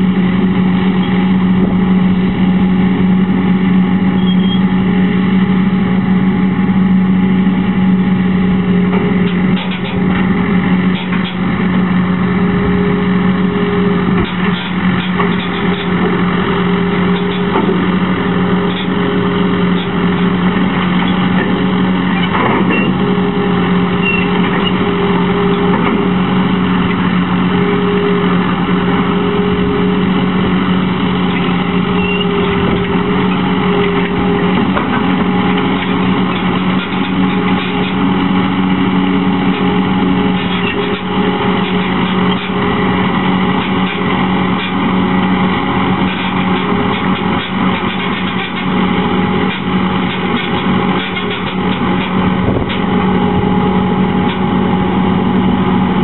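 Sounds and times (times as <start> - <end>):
track loader engine running: 0.0 - 56.0.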